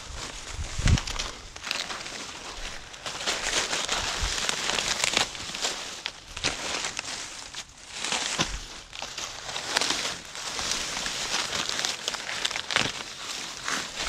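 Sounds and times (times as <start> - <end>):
footsteps crunching dry corn leaves: 0.0 - 14.0
irregular crackles: 0.0 - 14.0.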